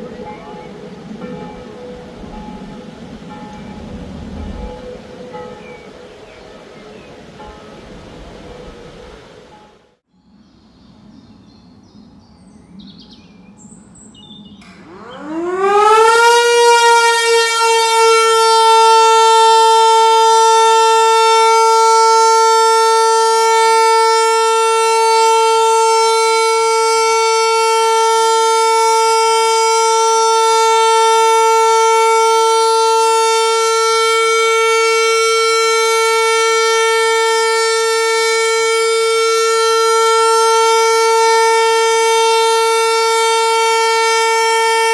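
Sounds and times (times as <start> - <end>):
civil defence siren: 0.0 - 10.0, 14.6 - 44.9.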